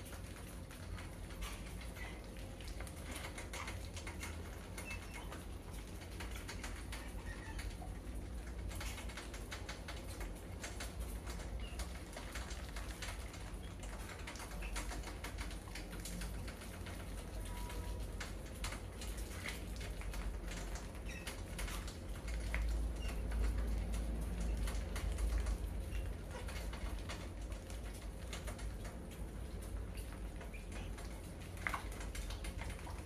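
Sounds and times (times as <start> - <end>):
mice claws clicking on wire: 0.0 - 33.0.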